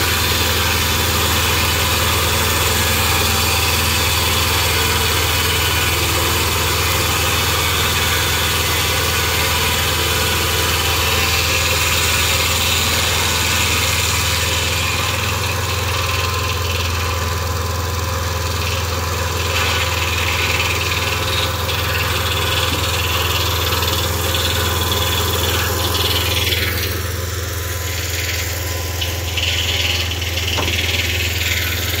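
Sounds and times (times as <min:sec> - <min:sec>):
sawmill engine idling: 0:00.0 - 0:32.0.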